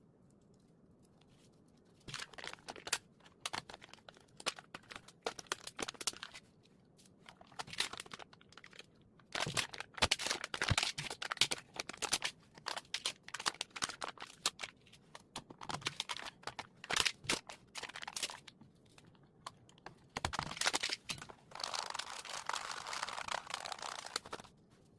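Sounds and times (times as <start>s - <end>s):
crinkly rustling: 0.5s - 24.9s.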